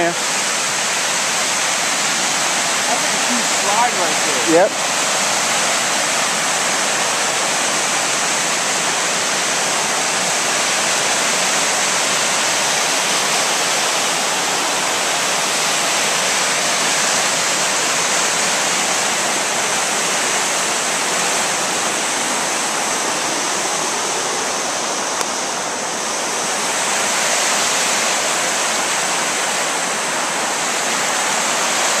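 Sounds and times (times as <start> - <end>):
creek water rushing over rocks: 0.0 - 32.0.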